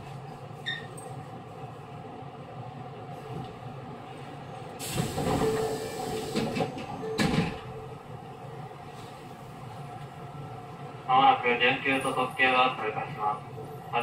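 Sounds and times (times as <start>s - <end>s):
train equipment hum: 0.0s - 14.0s.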